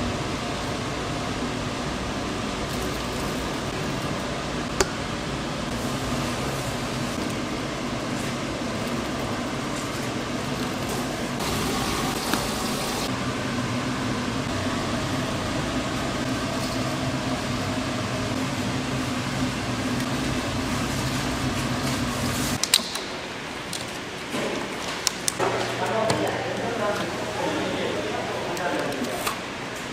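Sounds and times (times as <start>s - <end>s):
fan humming and hissing: 0.0s - 29.9s.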